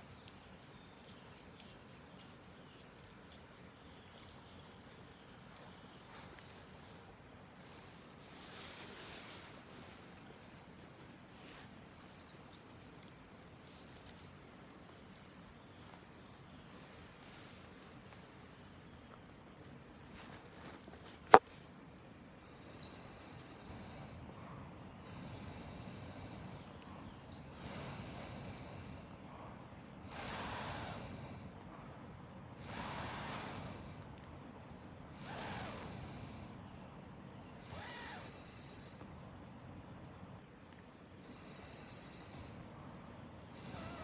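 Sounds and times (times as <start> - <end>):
breathy blowing on campfire: 2.1 - 18.9, 22.4 - 44.0.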